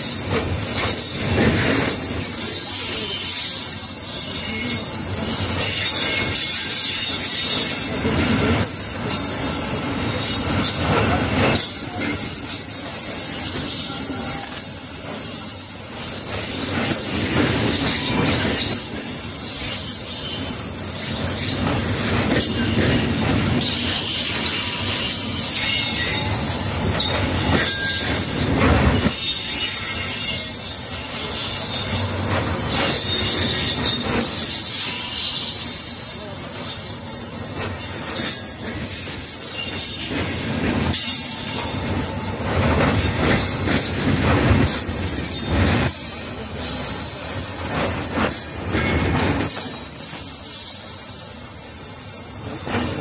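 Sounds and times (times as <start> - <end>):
freight train rolling past: 0.0 - 53.0
wheels squealing: 0.0 - 53.0.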